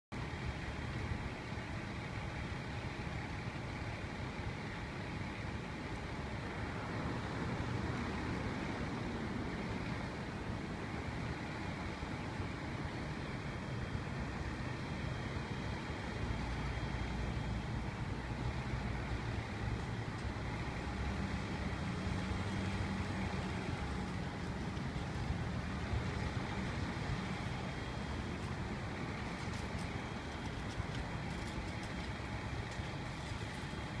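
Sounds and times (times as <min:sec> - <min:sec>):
city street traffic: 0:00.1 - 0:34.0
passing vehicle engine: 0:05.9 - 0:34.0.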